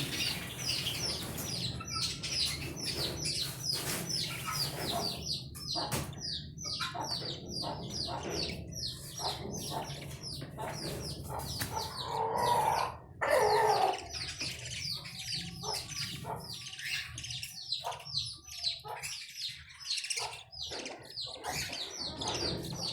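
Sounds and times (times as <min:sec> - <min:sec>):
budgerigars chattering: 0:00.0 - 0:22.9.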